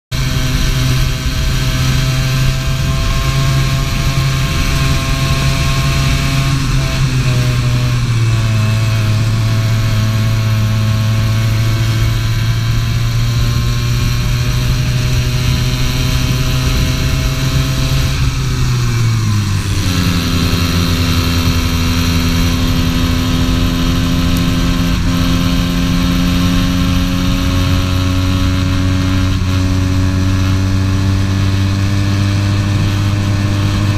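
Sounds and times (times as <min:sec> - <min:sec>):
kart engine at high revs: 0:00.1 - 0:33.9.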